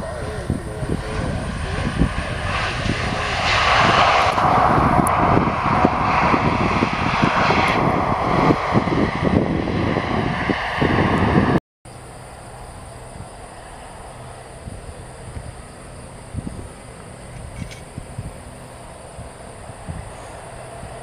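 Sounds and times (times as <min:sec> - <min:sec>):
wind buffeting microphone: 0:00.0 - 0:11.6, 0:13.0 - 0:21.0
jet engine roar: 0:00.0 - 0:21.0.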